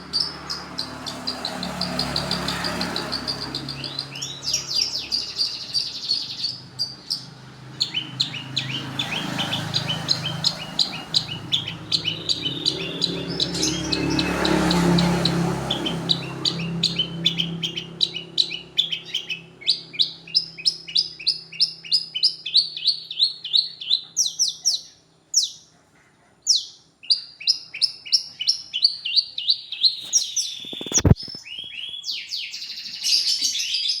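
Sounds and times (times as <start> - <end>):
bird high chirping song: 0.0 - 25.7, 26.4 - 34.0.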